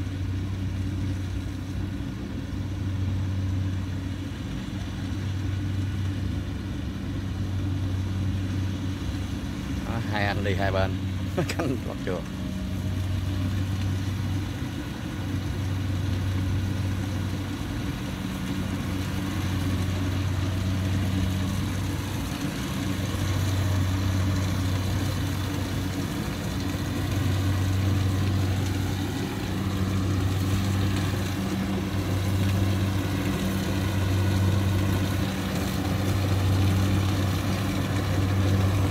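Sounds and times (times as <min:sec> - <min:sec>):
combine harvester diesel engine humming: 0:00.0 - 0:38.9.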